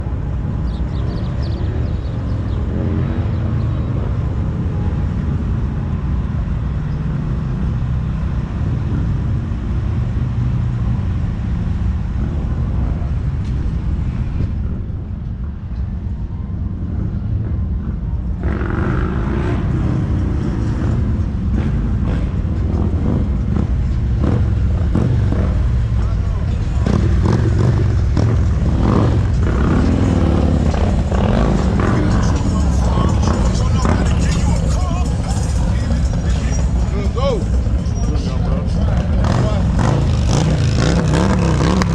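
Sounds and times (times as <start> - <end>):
motorcycle engines rumbling: 0.0 - 41.9.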